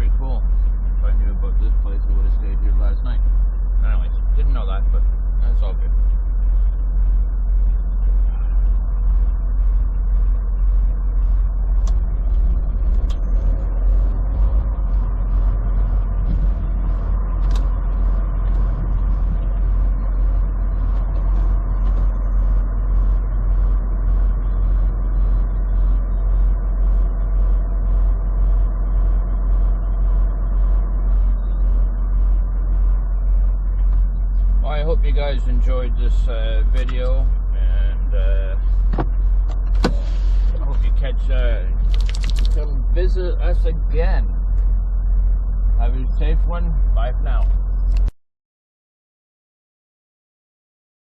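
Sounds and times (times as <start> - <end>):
road and engine rumble: 0.0 - 48.2.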